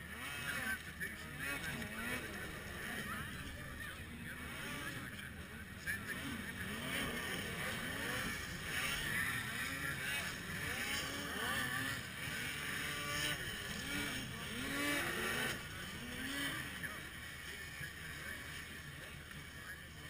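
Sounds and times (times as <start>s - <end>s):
snowmobile engines revving: 0.0s - 20.0s.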